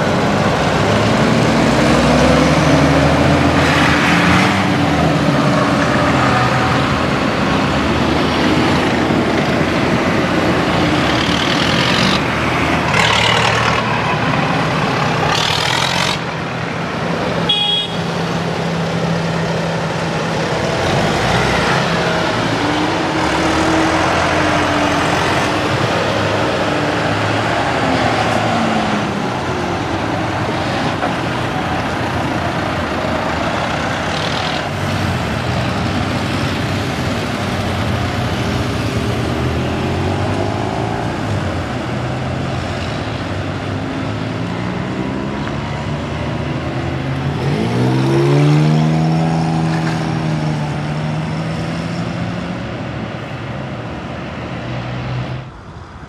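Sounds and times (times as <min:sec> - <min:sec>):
tractor diesel engines: 0:00.0 - 0:56.0.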